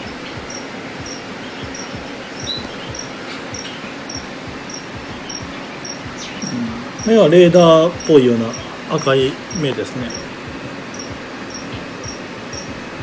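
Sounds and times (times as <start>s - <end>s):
background hum: 0.0s - 13.0s
cricket chirping: 0.0s - 13.0s.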